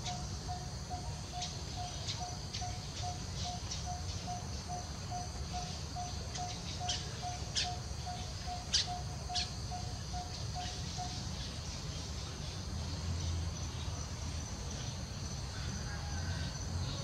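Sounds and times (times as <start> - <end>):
high insect-like hiss: 0.0 - 17.0.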